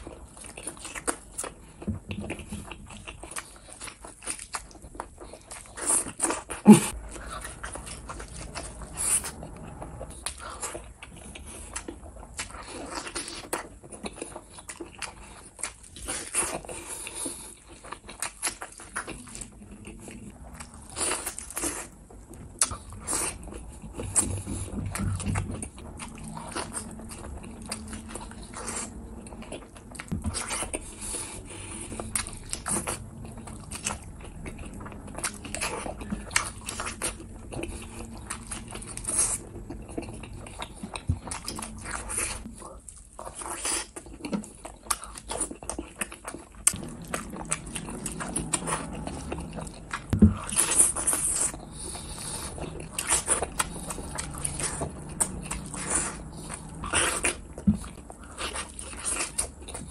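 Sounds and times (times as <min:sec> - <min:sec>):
chewing with wet mouth sounds: 0:00.0 - 0:59.9.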